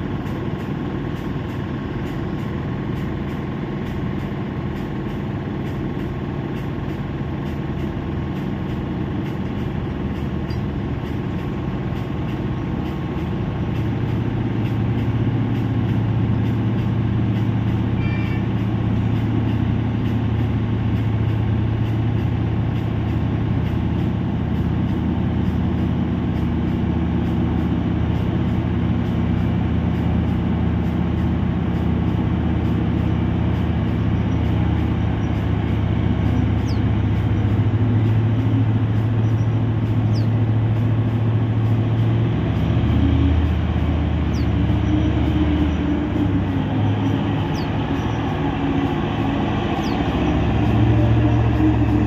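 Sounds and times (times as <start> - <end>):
haul truck diesel engines droning: 0.0 - 52.0.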